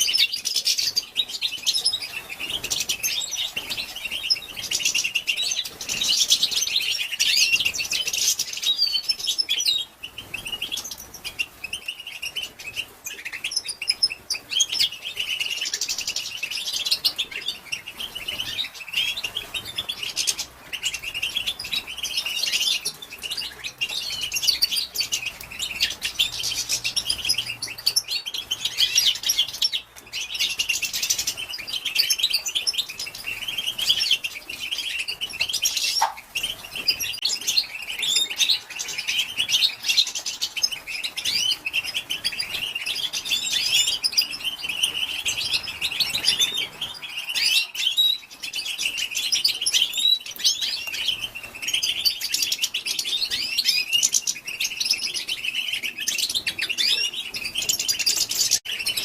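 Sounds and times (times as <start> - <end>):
goldfinch twittering: 0.0 - 59.0.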